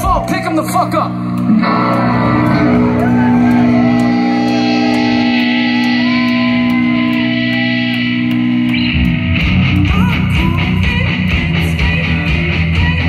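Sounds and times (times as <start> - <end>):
drums and bass: 0.0 - 13.0
sliding guitar notes: 0.8 - 13.0
ringing electric guitar chord: 1.1 - 11.6.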